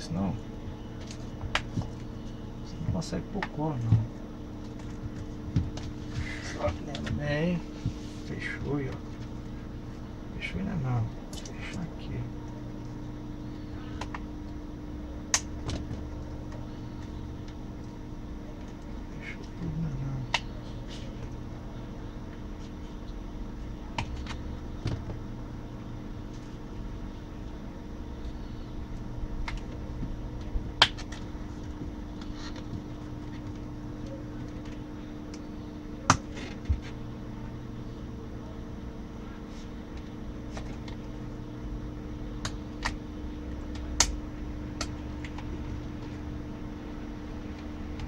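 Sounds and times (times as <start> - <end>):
low hum: 0.0 - 48.0.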